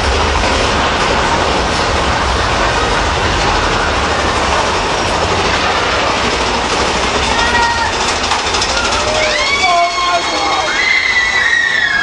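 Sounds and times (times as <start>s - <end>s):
roller coaster running on track: 0.0s - 12.0s.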